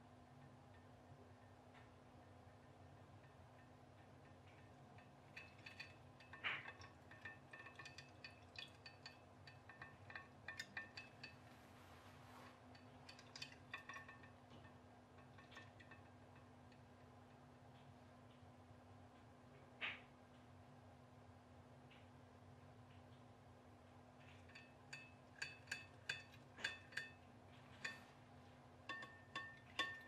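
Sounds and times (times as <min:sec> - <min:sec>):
pop-pop boat clinks and ticks: 0:00.2 - 0:11.4, 0:12.8 - 0:19.3, 0:22.0 - 0:28.1, 0:28.8 - 0:30.0.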